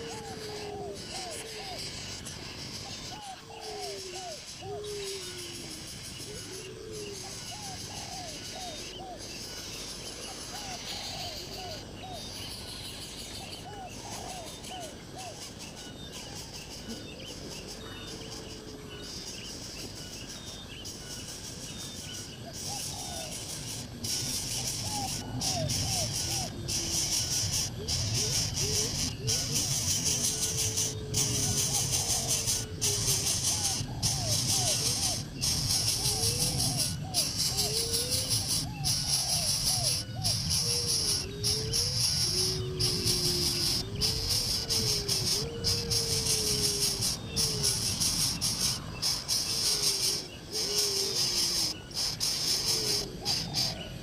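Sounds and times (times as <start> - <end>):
insects chirring: 0.0 - 54.0
swooping bird calls: 0.0 - 54.0.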